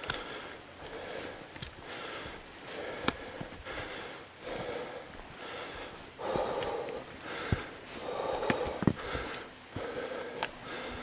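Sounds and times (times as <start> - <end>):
footsteps on dirt trail: 0.0 - 11.0
heavy breathing: 0.0 - 11.0.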